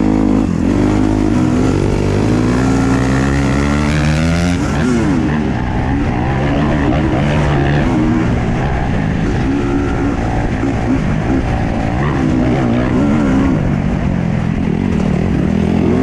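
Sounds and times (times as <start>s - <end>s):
motorcycle engine revving: 0.0s - 16.0s
rough rushing noise: 0.0s - 16.0s.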